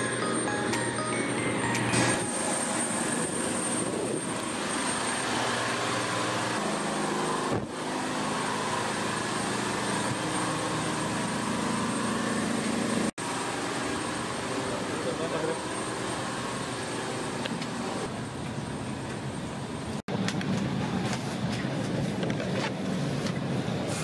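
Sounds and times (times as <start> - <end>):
auxiliary power unit whine: 0.0 - 24.0.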